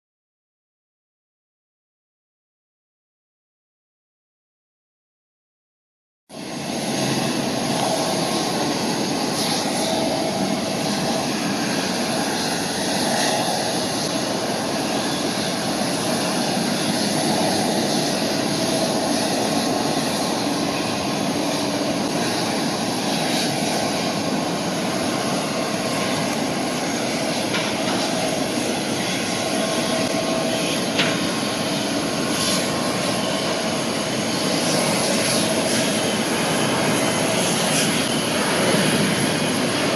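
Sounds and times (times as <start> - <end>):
jet engines taking off: 6.3 - 39.9.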